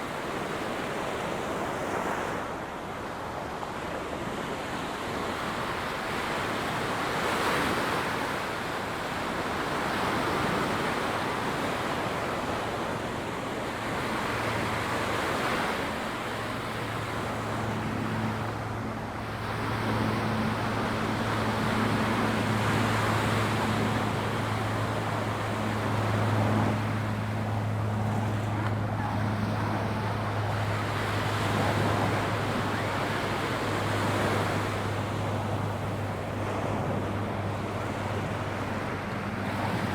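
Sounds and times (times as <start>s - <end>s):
ocean surf washing onto beach: 0.0s - 39.9s
low engine hum: 2.4s - 39.9s.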